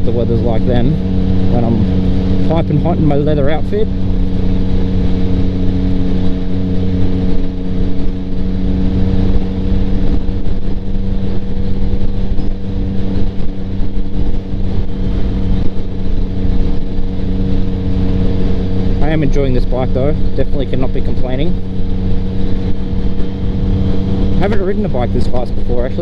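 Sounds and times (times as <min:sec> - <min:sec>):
motorcycle engine cruising: 0:00.0 - 0:26.0
road noise: 0:00.0 - 0:26.0
wind noise: 0:00.0 - 0:26.0.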